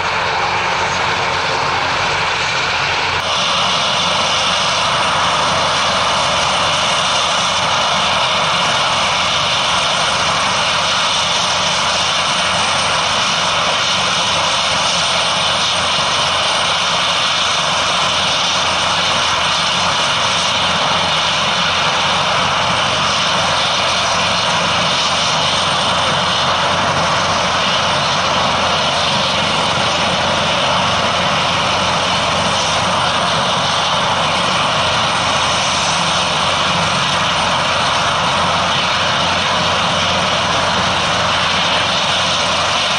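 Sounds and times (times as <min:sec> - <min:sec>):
helicopter rotors turning: 0:00.0 - 0:42.9
turboshaft engine whine: 0:00.0 - 0:42.9.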